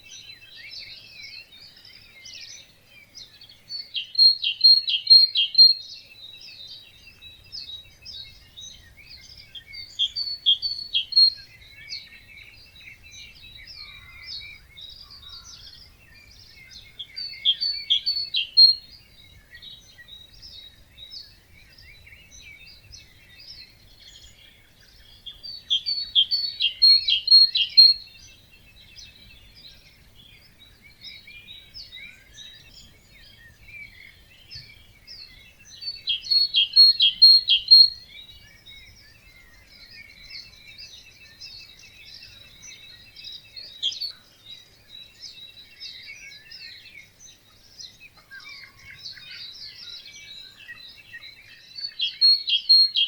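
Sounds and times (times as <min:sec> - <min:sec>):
bird repeating song phrase: 0:00.0 - 0:53.0
songbirds chorus: 0:00.0 - 0:53.0.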